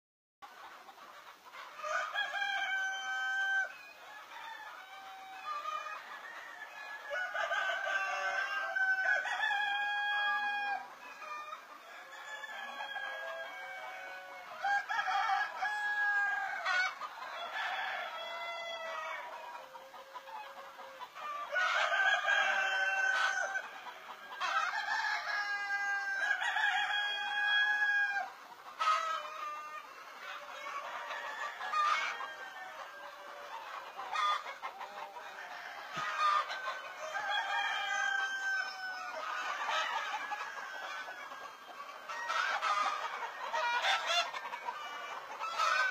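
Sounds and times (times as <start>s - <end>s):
chickens clucking: 0.4s - 45.9s
roosters crowing: 1.7s - 45.9s.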